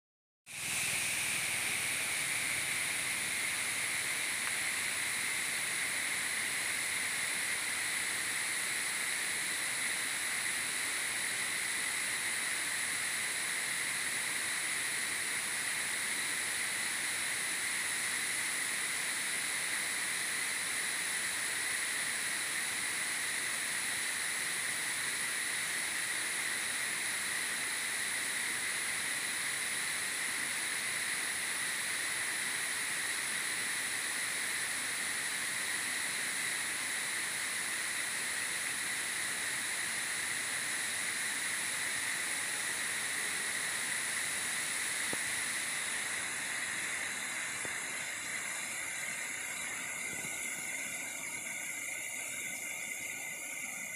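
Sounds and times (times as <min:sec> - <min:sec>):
insects droning: 0:00.5 - 0:53.9
waterfall pouring onto rocks: 0:00.6 - 0:53.9.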